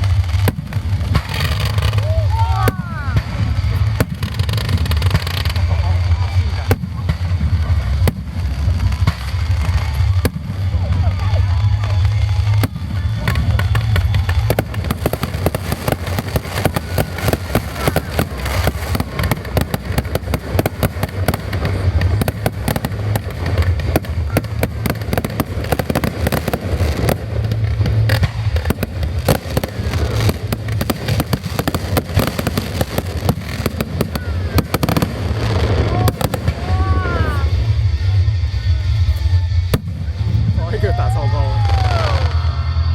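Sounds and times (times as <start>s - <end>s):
fireworks banging and crackling: 0.0s - 42.9s.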